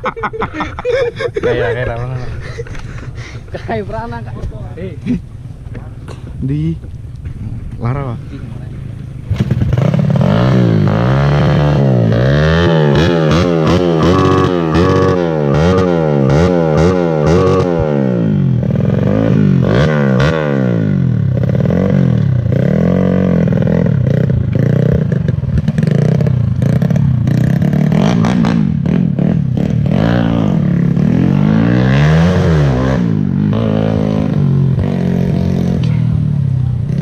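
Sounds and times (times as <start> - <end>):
motorcycle engine revving: 3.6 - 37.0.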